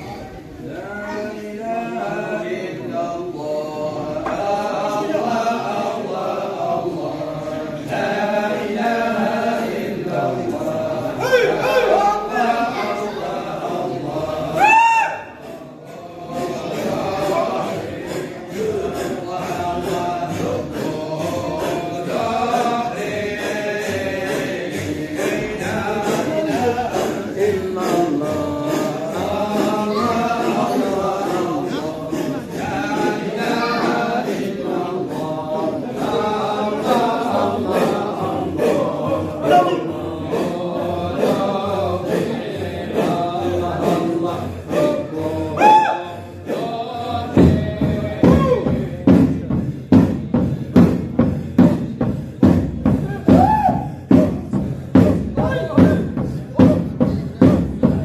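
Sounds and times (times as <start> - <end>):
men chanting together: 0.0 - 58.0.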